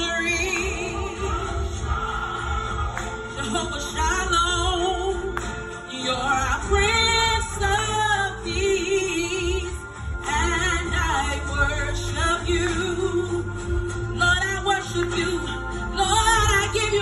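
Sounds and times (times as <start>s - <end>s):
woman singing gospel song: 0.0s - 17.0s.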